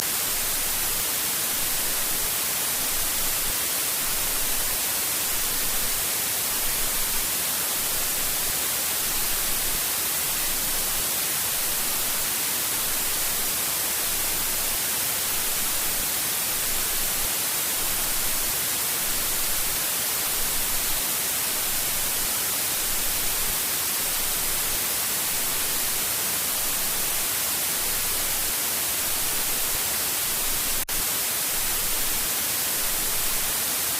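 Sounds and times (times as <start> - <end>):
white-noise static hiss: 0.0 - 33.9.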